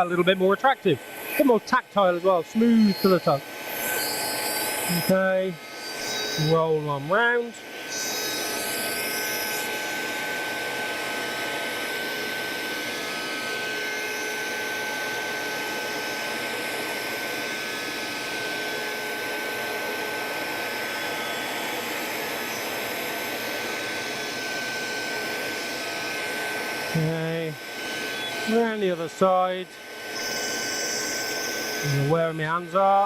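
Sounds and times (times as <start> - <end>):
router whining: 0.0 - 33.0.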